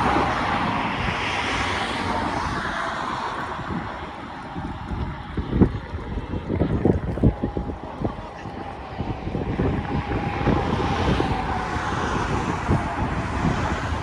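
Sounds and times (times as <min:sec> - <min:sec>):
faint steady drone: 0:00.0 - 0:14.0
wind buffeting microphone: 0:00.0 - 0:14.0.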